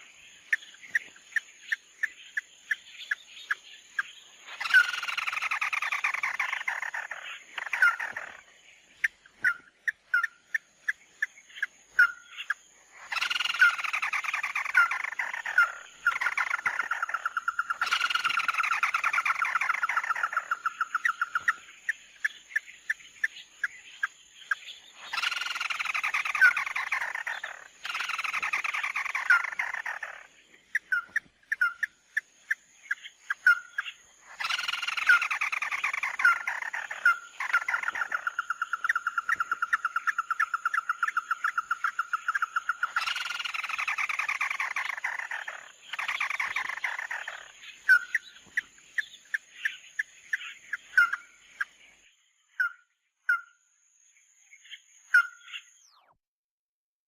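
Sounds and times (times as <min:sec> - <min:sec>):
short bird chirps: 0:00.0 - 0:53.6, 0:54.4 - 0:56.2
long rapid bird trill: 0:04.5 - 0:51.7.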